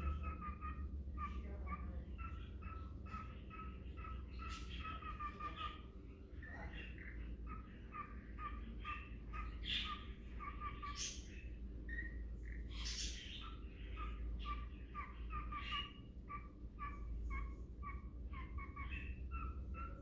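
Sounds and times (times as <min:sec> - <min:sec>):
loud noisy parakeet calls: 0:00.0 - 0:20.0
parakeet chirping: 0:00.0 - 0:20.0.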